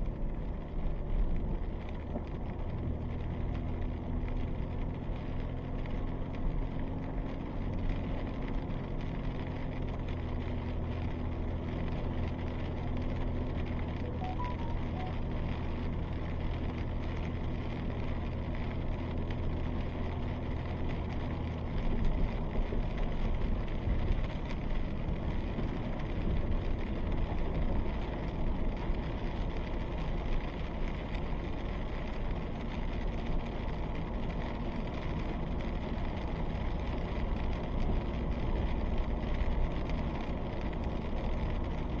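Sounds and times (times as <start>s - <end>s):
vehicle engine hum in cabin: 0.0s - 42.0s.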